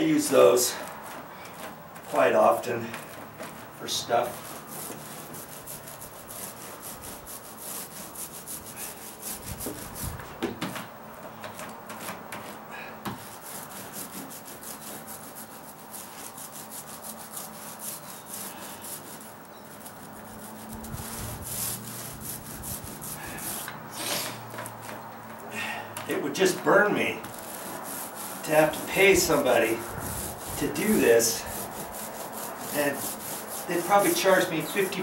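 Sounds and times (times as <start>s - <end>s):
paint roller rolling on plywood: 0.0s - 35.0s.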